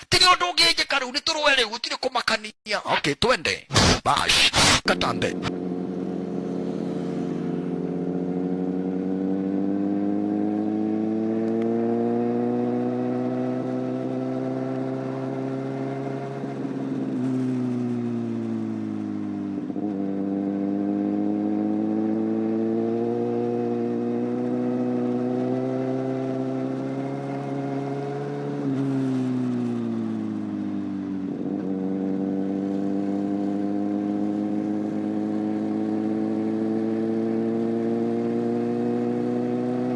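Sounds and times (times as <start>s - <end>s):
motorcycle engine revving: 4.9s - 39.9s.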